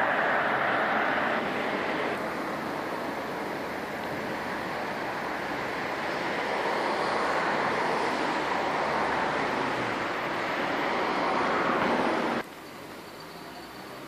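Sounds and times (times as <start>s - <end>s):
distant city traffic: 0.0s - 14.0s.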